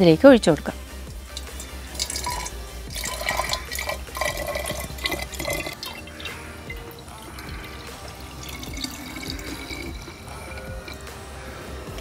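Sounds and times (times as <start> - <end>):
liquid pouring into glass bottle: 1.3 - 11.2.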